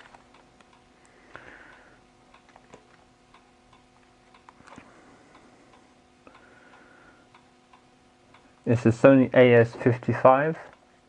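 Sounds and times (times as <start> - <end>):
faint regular ticking: 0.0 - 11.0
low steady hum: 0.0 - 11.0.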